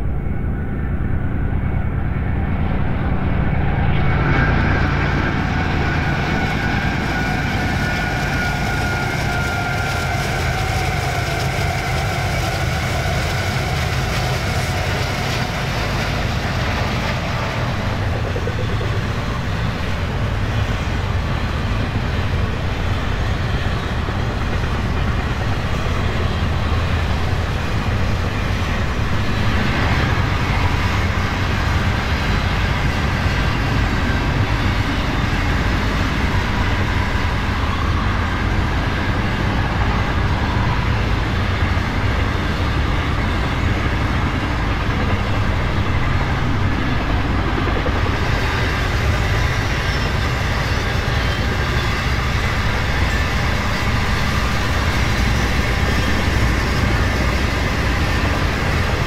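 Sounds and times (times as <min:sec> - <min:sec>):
diesel locomotives rumbling: 0:00.0 - 0:59.0
steel wheels on rails: 0:03.8 - 0:59.0.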